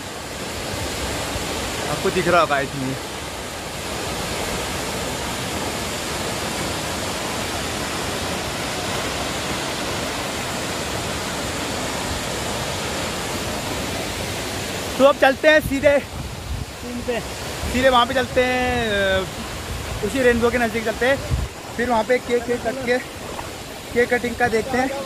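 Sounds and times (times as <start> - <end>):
waterfall crashing onto rocks: 0.0 - 25.0.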